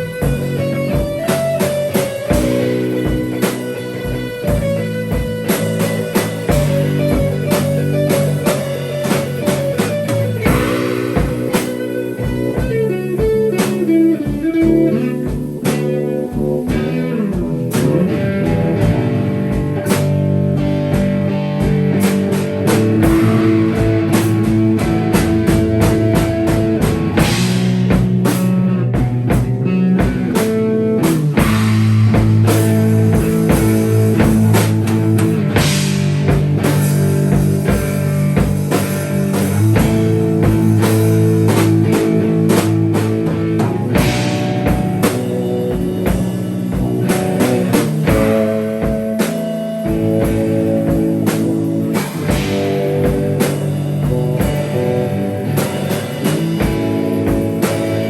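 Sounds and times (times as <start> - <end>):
drum kit: 0.0 - 58.0
guitar notes and chords: 0.0 - 58.0.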